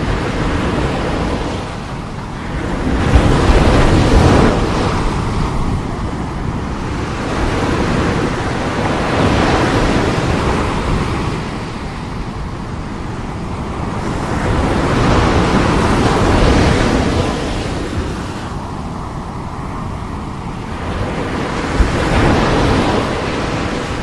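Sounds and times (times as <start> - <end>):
sea waves breaking on shore: 0.0 - 24.0.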